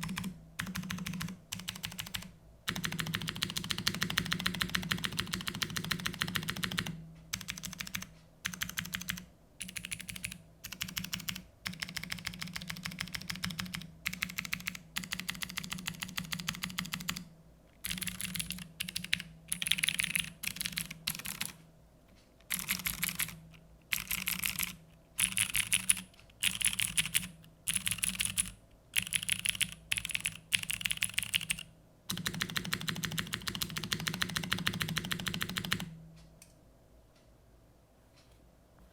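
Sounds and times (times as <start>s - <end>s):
mechanical keyboard typing: 0.0s - 21.6s, 22.5s - 35.9s.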